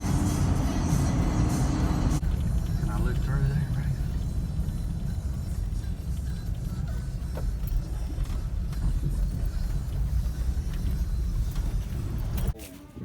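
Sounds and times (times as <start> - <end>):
atv engine rumbling: 0.0 - 12.6.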